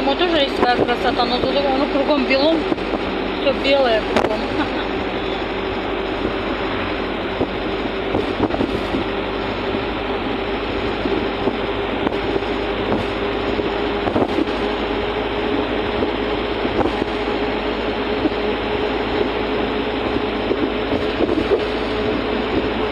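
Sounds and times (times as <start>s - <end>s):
engine and road noise: 0.0s - 22.9s
steady hum: 0.0s - 22.9s.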